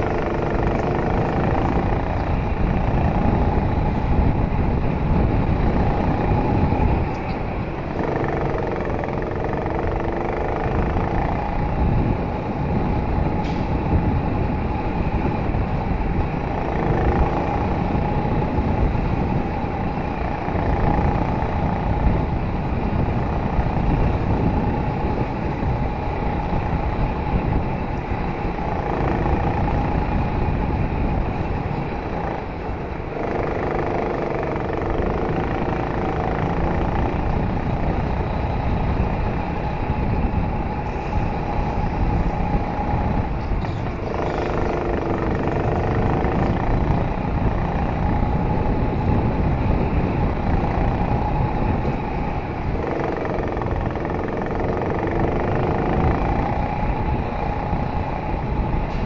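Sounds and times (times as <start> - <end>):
go-kart motor: 0.0 - 59.0
tyre and track rumble: 0.0 - 59.0.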